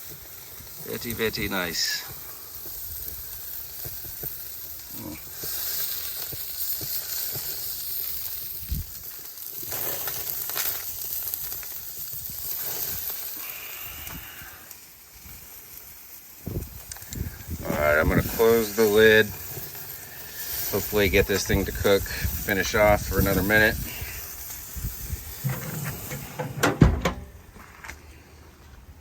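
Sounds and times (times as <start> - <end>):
steak sizzling on a grill: 0.0 - 27.5.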